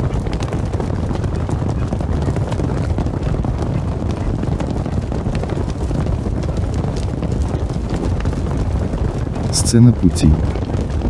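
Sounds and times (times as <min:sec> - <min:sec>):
galloping horse hoofbeats: 0:00.0 - 0:11.0
windy rumble: 0:00.0 - 0:11.0.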